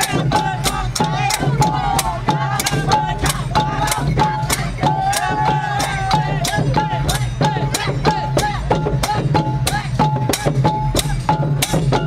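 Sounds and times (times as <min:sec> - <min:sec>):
drums beating steady rhythm: 0:00.0 - 0:12.0.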